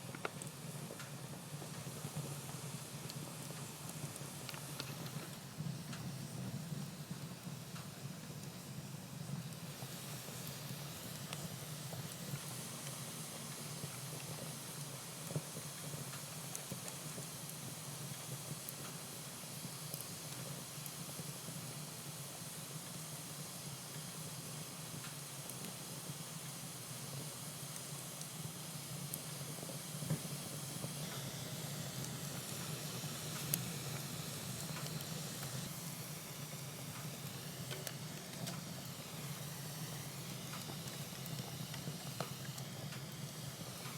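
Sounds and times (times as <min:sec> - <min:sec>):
faint fire pops: 0:00.0 - 0:43.9
wood fire hissing: 0:00.0 - 0:43.9.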